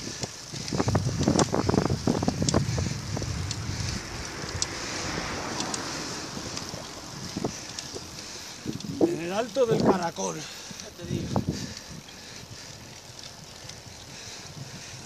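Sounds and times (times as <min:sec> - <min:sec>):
wind buffeting microphone: 0:00.0 - 0:15.0
faint sharp ticks: 0:00.1 - 0:10.0, 0:11.6 - 0:15.0.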